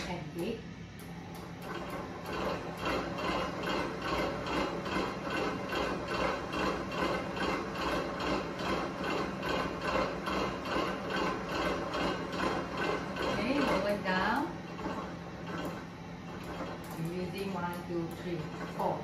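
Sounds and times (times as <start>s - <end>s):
mixer beater clatter: 0.0s - 19.0s
stand mixer motor hum: 0.8s - 19.0s.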